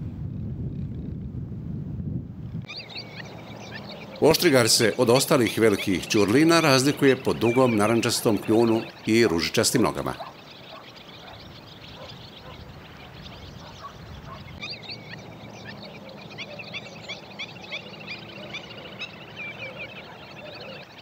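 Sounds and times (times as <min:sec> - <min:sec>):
flock of birds calling: 0:02.7 - 0:21.0.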